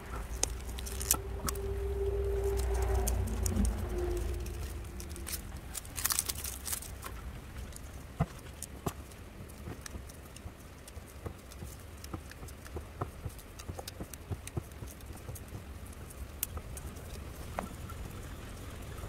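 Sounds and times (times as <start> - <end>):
knife cutting fleshy stems: 0.0 - 17.2
low steady hum: 0.0 - 19.0.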